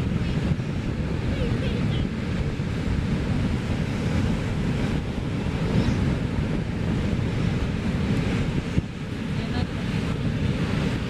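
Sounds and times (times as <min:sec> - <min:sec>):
surf on a beach: 0:00.0 - 0:11.0
wind buffeting microphone: 0:00.0 - 0:11.0.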